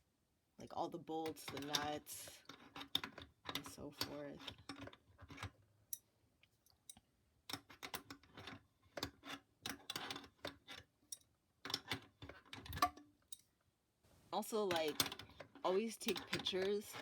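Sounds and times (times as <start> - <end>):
tools and bolts clicking: 1.2 - 13.5, 14.6 - 17.0.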